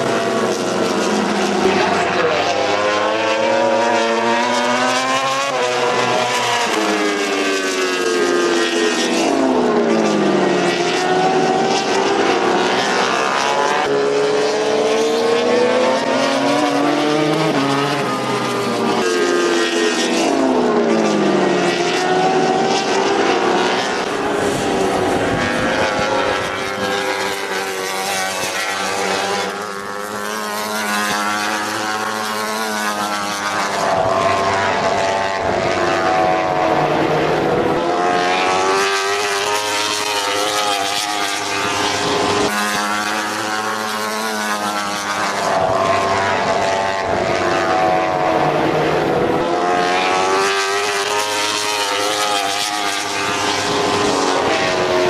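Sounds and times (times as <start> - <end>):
racing motorcycles passing: 0.0 - 55.0.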